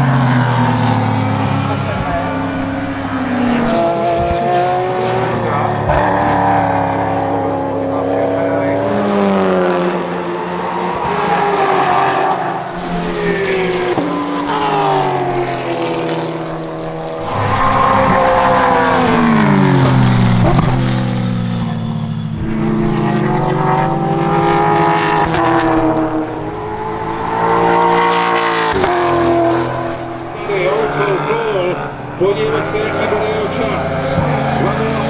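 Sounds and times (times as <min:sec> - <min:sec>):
race car engine revving: 0:00.0 - 0:35.0.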